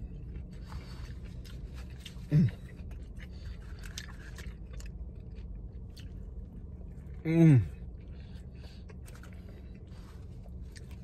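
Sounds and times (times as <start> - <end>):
chewing with mouth clicks: 0.0 - 11.0.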